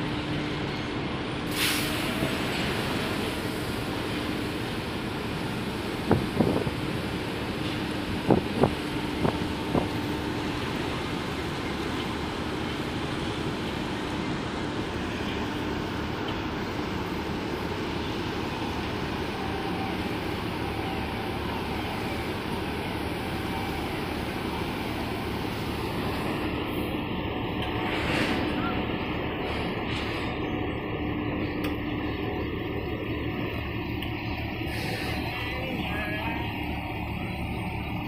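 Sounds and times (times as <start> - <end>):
ship engine rumble: 0.0 - 38.0.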